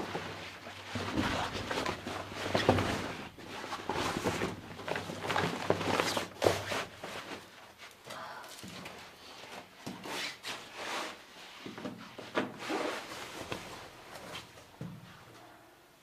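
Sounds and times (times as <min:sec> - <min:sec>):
rustling and scraping: 0:00.0 - 0:08.0, 0:08.6 - 0:15.5.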